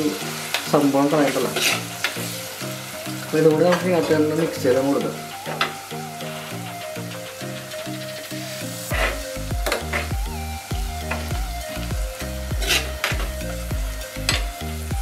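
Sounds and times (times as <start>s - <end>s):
background music with beat: 0.0s - 15.0s
food sizzling in oil: 0.0s - 15.0s.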